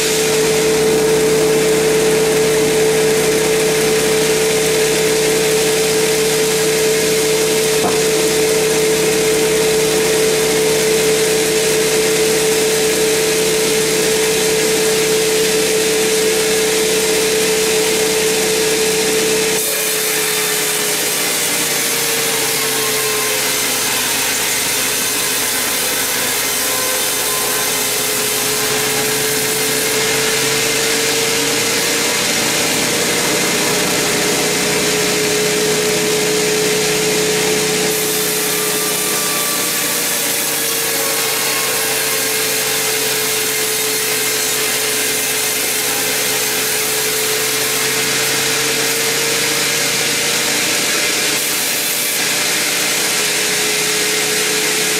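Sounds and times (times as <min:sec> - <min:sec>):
band saw whining: 0:00.0 - 0:54.9
saw blade cutting log: 0:00.0 - 0:54.9.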